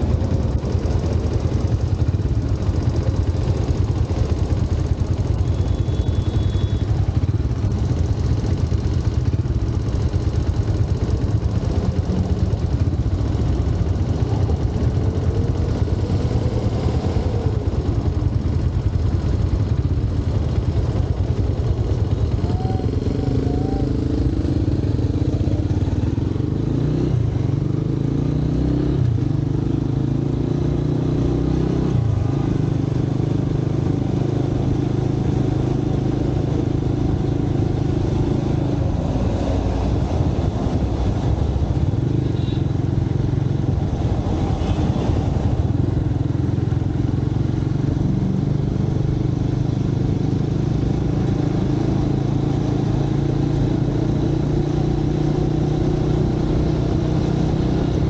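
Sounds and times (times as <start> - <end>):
motorcycle engine rumble: 0.0 - 58.0.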